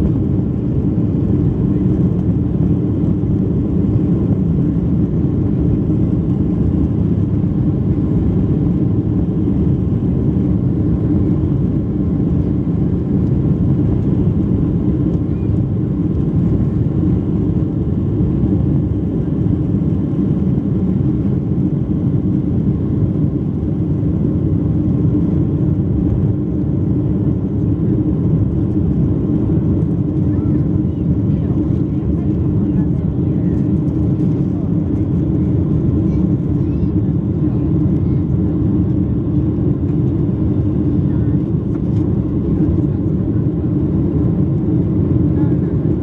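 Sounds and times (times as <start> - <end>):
jet engines at takeoff thrust: 0.0 - 46.0.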